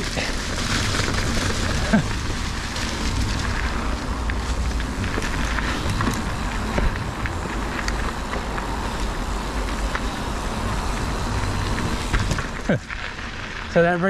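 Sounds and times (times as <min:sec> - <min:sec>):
wind rumble on microphone: 0:00.0 - 0:13.8
bike clicks and rattles: 0:00.0 - 0:14.0
bike tyres on dirt trail: 0:00.0 - 0:14.0.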